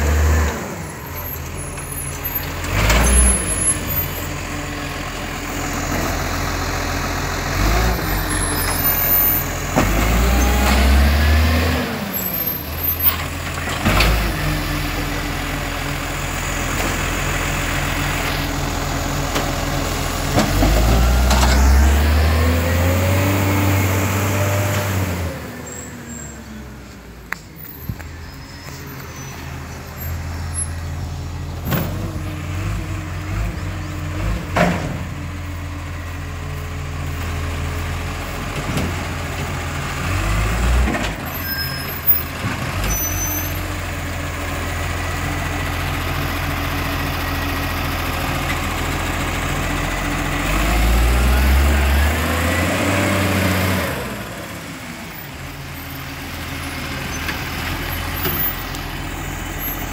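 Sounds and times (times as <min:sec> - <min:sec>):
garbage truck diesel engine: 0:00.0 - 0:59.9.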